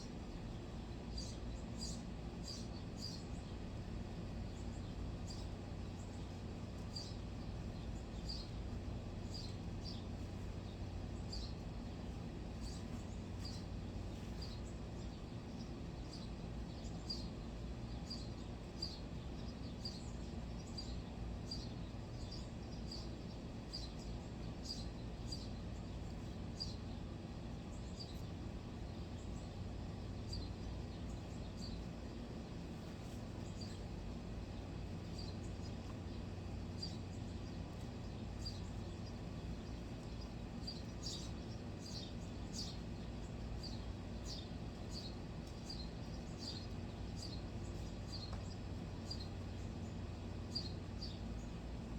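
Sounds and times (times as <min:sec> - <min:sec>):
low background rumble: 0:00.0 - 0:51.9
small bird chirping: 0:00.2 - 0:51.9.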